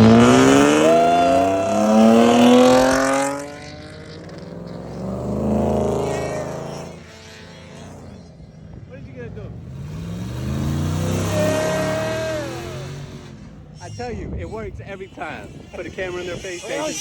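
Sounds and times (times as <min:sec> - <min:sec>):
car accelerating hard: 0:00.0 - 0:17.0
quieter car engine: 0:00.0 - 0:17.0.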